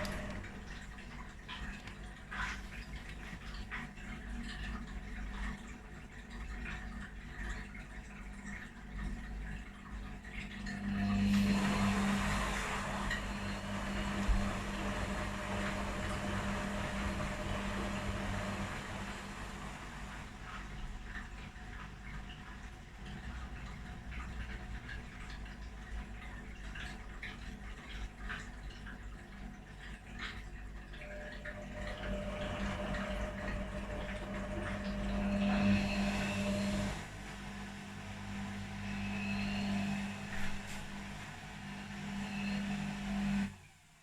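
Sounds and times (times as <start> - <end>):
wet washing sloshing: 0.0 - 42.2
washing machine motor hum: 0.0 - 44.0.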